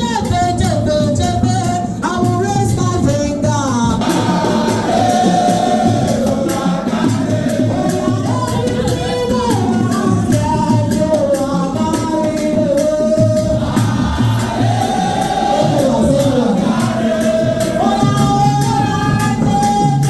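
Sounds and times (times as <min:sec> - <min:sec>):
percussion beat: 0:00.0 - 0:20.0
group singing in chorus: 0:03.9 - 0:20.0.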